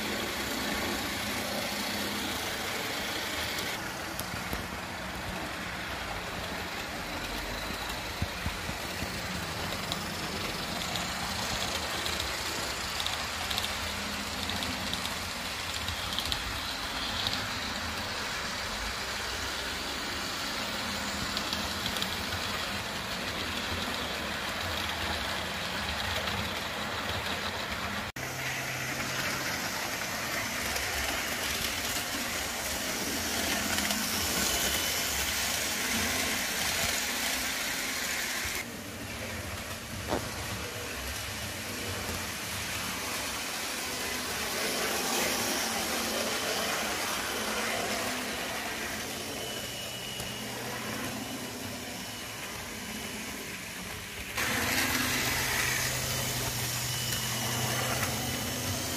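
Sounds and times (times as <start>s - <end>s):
model train wheels on rails: 0.0s - 58.9s
small electric motors whirring: 0.0s - 58.9s.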